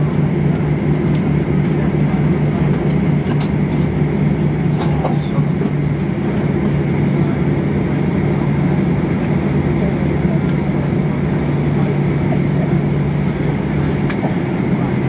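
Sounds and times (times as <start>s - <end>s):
aircraft cabin drone: 0.0s - 15.0s.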